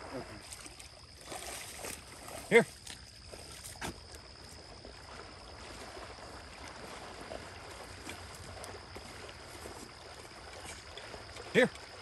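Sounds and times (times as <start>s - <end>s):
water lapping and sloshing: 0.0s - 12.0s.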